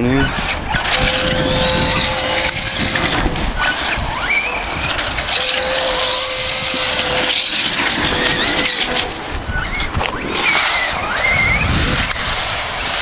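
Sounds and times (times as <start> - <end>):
electric motor whining: 0.0 - 13.0
tyres spinning through snow: 0.0 - 13.0.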